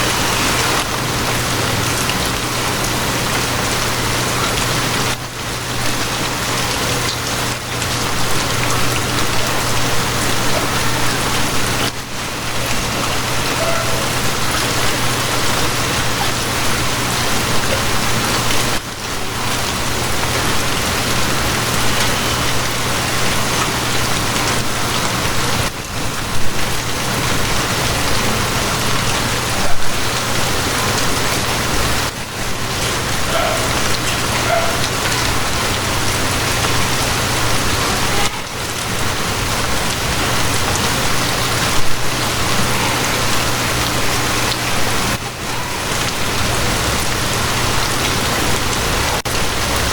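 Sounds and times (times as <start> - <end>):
rain spatters: 0.0 - 49.9
steady rain falling: 0.0 - 49.9.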